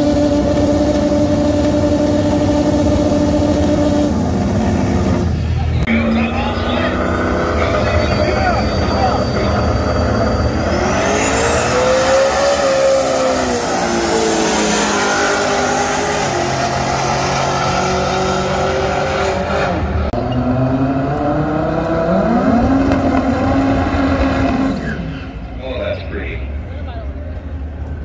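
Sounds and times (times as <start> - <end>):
car engines at full throttle: 0.0 - 28.0
high whine: 0.0 - 28.0.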